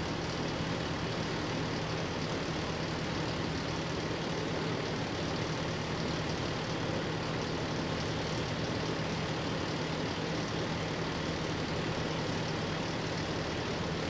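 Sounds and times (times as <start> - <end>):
fire engine running: 0.0 - 14.0.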